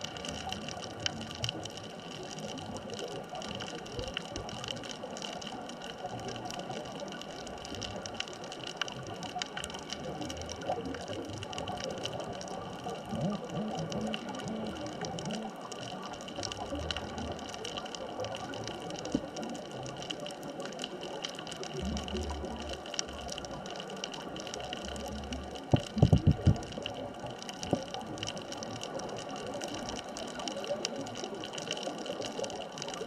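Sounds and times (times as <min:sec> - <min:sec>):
low gurgling: 0:00.0 - 0:33.0
small clicks and crackles: 0:00.0 - 0:33.0.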